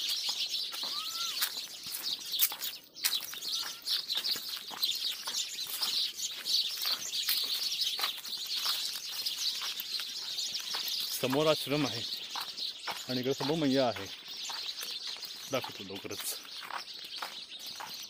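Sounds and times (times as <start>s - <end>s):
rising and falling bird call: 0.0s - 17.9s
small birds chirping: 0.0s - 18.0s.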